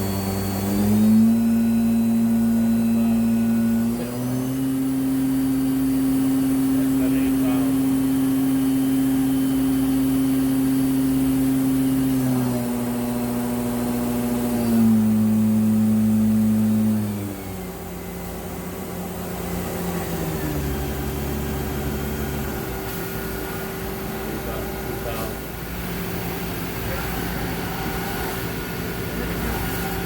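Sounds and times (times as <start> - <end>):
milling machine whine: 0.0 - 30.0.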